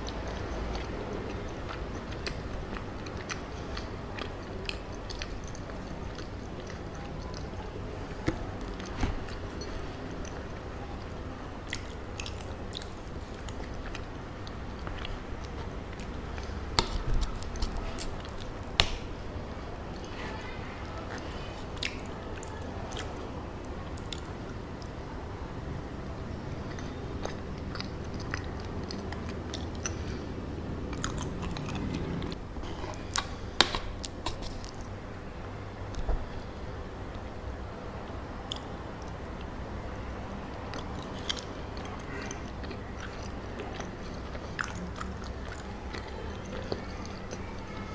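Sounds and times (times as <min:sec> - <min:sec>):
sticky chewing: 0:00.0 - 0:19.2, 0:19.8 - 0:25.2, 0:25.8 - 0:30.3, 0:30.9 - 0:47.9.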